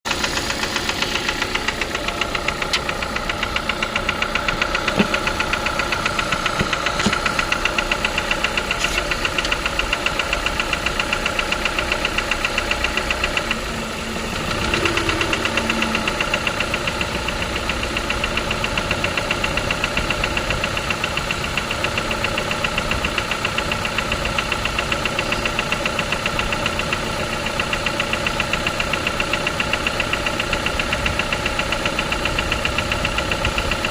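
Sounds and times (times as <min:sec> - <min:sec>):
engine idling with knocking tick: 0:00.0 - 0:33.9.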